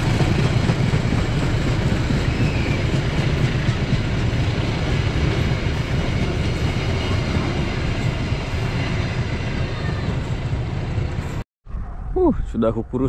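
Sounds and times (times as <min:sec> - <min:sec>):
train wheels rumbling on rails: 0:00.0 - 0:11.4.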